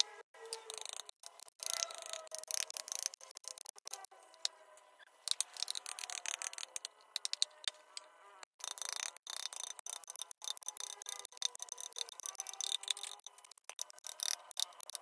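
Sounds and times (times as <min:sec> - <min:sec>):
hand tools clicking on wood: 0:00.0 - 0:04.5, 0:05.3 - 0:07.8, 0:08.4 - 0:15.0.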